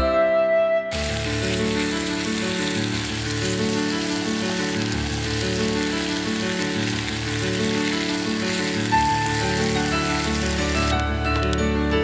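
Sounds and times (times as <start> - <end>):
background music of held notes: 0.0 - 12.0
food sizzling in frying pan: 0.9 - 12.0.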